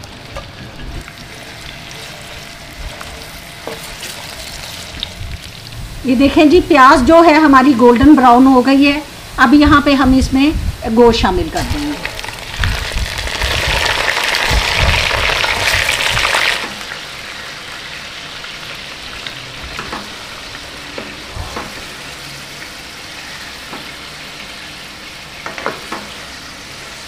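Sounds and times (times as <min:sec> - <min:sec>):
meat sizzling in hot fat: 0:00.0 - 0:27.0.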